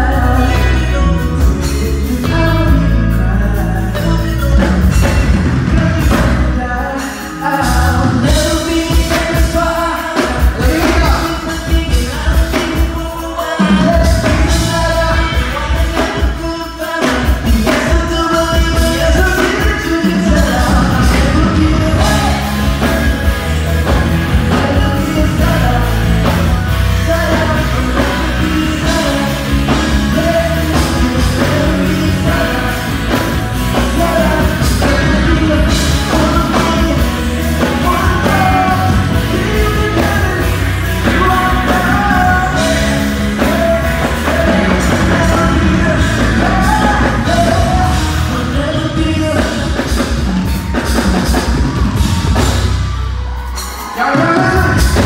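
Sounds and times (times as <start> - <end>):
heavy bass: 0.0 - 55.0
live band music: 0.0 - 55.0
person singing: 0.0 - 55.0.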